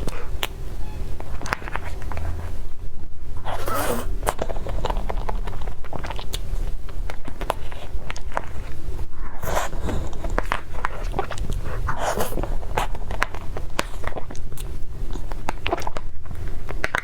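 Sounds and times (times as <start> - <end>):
chewing with mouth clicks: 0.0 - 0.6, 1.2 - 2.6, 3.4 - 17.0.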